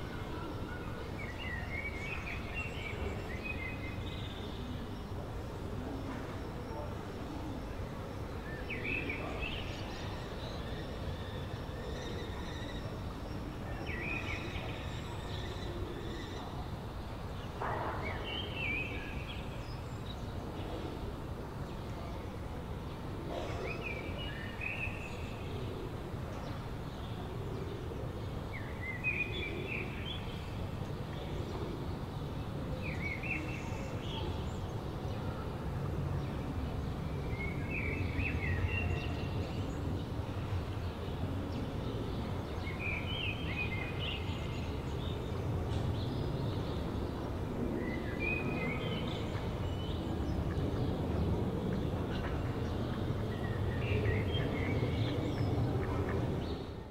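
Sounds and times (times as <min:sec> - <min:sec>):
distant city traffic hum: 0:00.0 - 0:56.9.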